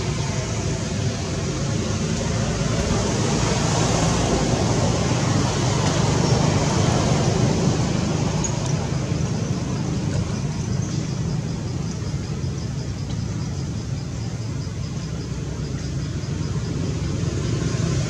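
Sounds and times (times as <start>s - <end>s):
traffic rumble and hiss: 0.0s - 18.0s.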